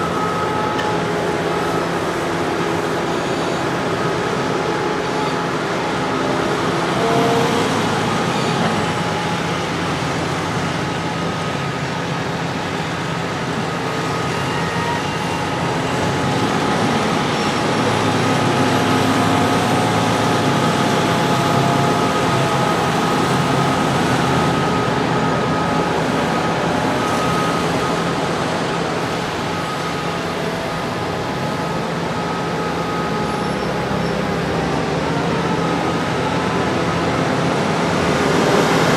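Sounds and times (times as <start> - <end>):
diesel tractor engines running: 0.0 - 38.9
engine whine: 0.0 - 38.9.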